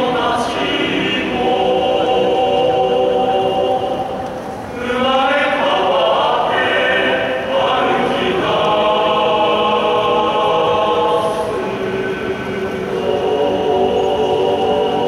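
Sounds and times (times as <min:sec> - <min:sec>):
men's choir singing: 0:00.0 - 0:15.0.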